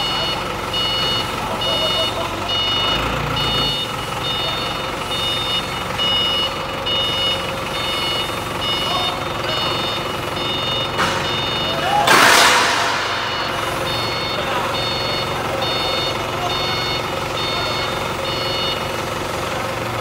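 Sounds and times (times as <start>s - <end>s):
forklift reversing alarm beeping: 0.0s - 20.0s.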